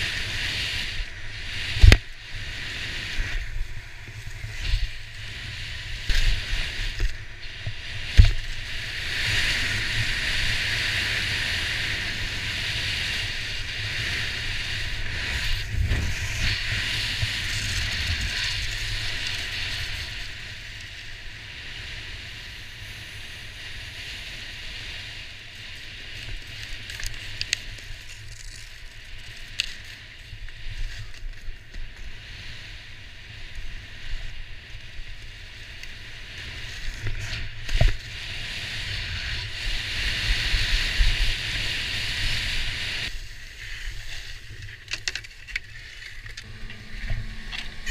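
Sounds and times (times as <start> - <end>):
skis scraping over snow: 0.0 - 47.9
wind rumbling on microphone: 0.0 - 47.9.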